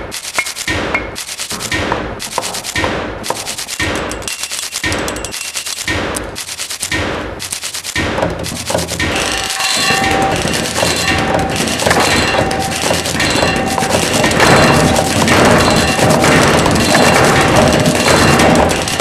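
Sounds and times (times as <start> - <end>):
hands striking metal objects: 0.0 - 19.0.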